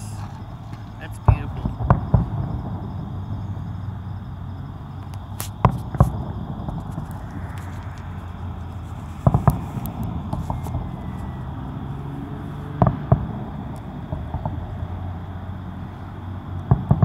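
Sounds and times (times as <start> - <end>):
distant firework bangs: 0.0 - 4.0, 5.1 - 15.2, 16.6 - 17.0
low background rumble: 0.0 - 17.0.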